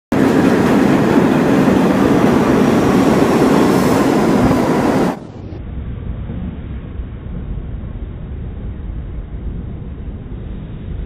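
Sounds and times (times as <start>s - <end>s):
subway train rumbling on rails: 0.1s - 11.0s.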